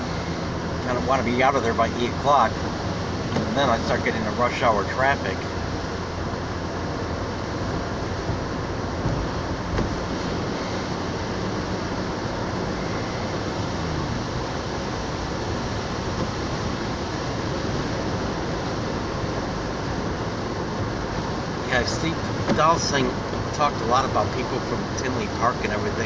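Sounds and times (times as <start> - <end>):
car engine: 0.0 - 26.0
tyres hissing on wet road: 0.0 - 26.0.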